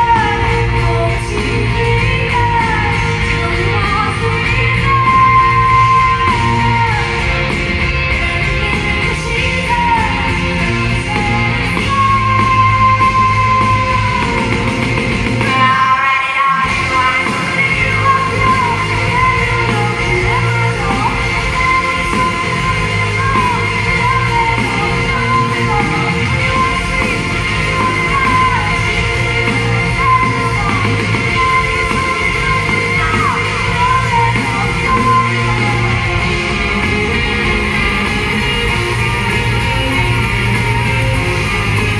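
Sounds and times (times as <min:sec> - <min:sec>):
bass line: 0:00.0 - 0:41.9
live rock band: 0:00.0 - 0:41.9
woman singing: 0:00.0 - 0:41.9.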